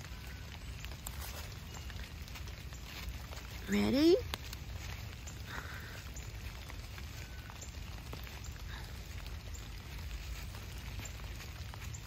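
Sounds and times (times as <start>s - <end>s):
light rain on fallen leaves: 0.0s - 12.0s.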